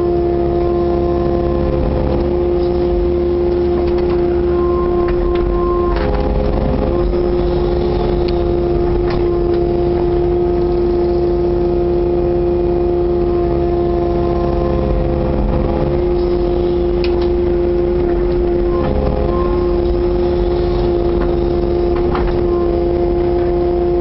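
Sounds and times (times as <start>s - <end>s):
excavator diesel engine and hydraulics: 0.0s - 24.0s.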